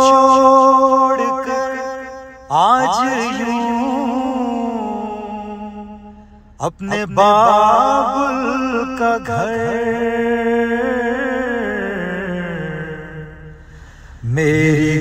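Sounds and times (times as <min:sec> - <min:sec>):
person singing chant-like phrases: 0:00.0 - 0:15.0.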